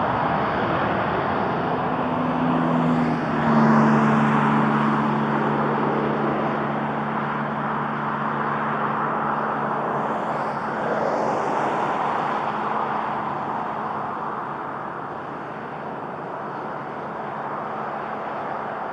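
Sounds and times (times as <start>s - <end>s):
jet engines roaring at takeoff: 0.0s - 18.9s.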